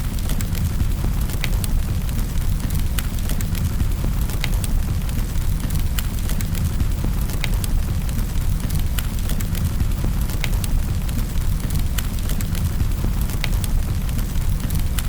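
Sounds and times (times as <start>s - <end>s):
fire crackling and popping: 0.0s - 15.0s
low fire rumble: 0.0s - 15.0s.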